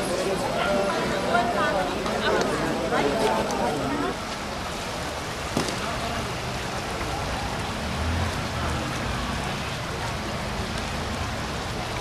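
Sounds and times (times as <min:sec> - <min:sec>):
shallow river water running: 0:00.0 - 0:12.0.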